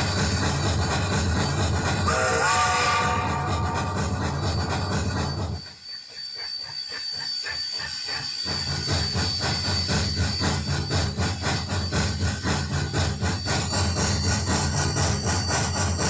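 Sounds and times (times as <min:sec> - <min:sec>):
model train locomotive chugging: 0:00.0 - 0:16.0
steady high whine: 0:00.0 - 0:16.0.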